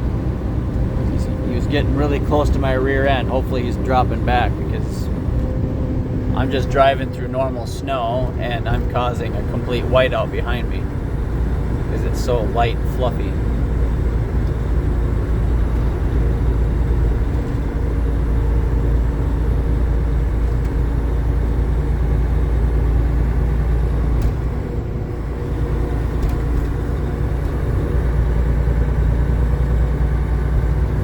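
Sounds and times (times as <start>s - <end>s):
road noise inside cab: 0.0s - 31.0s
truck engine rumble: 0.0s - 31.0s.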